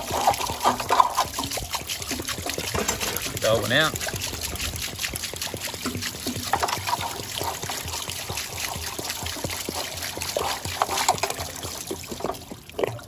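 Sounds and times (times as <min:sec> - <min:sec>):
water pouring and splashing on roof: 0:00.0 - 0:13.0.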